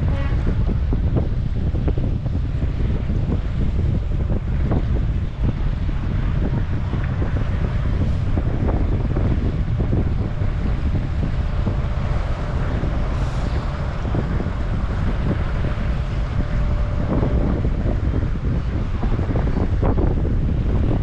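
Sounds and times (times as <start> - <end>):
wind blowing on microphone: 0.0 - 21.0.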